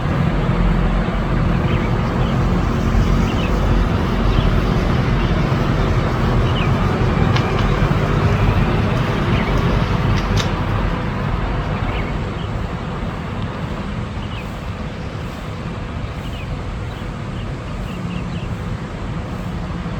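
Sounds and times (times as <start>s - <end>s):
distant road traffic rumble: 0.0s - 19.9s.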